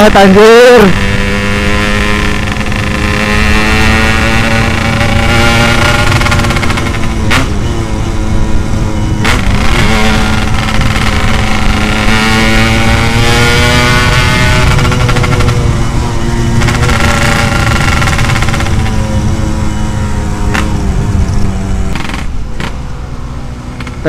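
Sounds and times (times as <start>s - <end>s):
two-stroke motorcycle engine: 0.0s - 22.8s.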